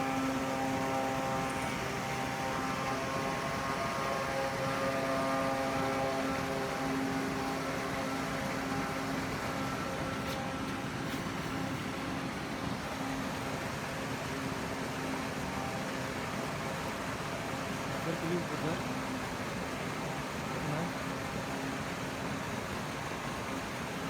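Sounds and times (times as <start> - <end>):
boat motor whine: 0.0 - 24.0.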